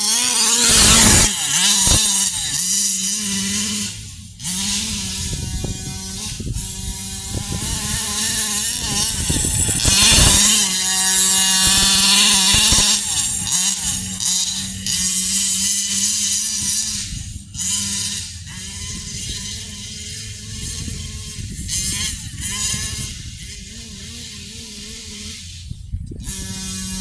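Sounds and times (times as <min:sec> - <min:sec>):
two-stroke rc truck engine revving: 0:00.0 - 0:27.0.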